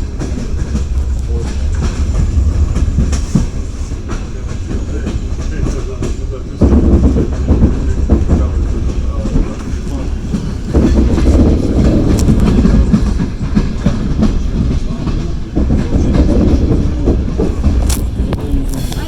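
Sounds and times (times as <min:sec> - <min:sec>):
train rumbling: 0:00.0 - 0:19.0
wheels clattering over rails: 0:00.0 - 0:19.0.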